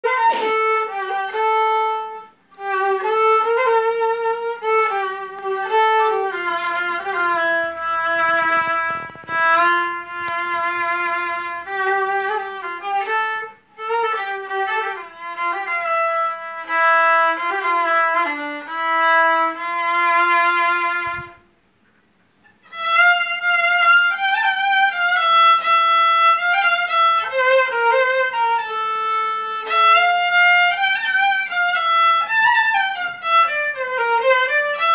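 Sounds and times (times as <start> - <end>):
solo violin melody: 0.0 - 21.6, 22.4 - 34.9.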